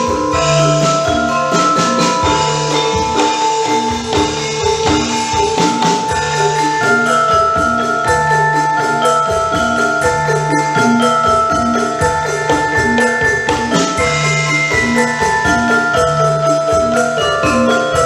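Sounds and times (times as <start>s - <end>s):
instrumental music with drum beat: 0.0s - 18.0s.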